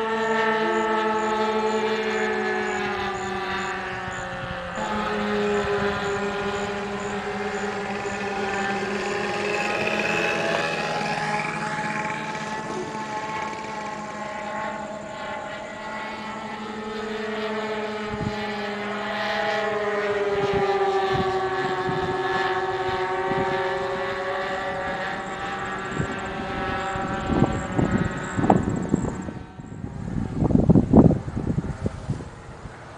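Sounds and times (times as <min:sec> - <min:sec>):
model aircraft motors droning: 0:00.0 - 0:32.9.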